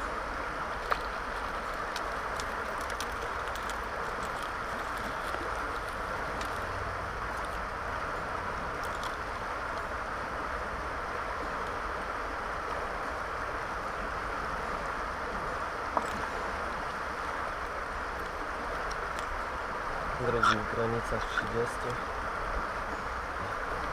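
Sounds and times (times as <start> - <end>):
river water flowing: 0.0 - 23.9.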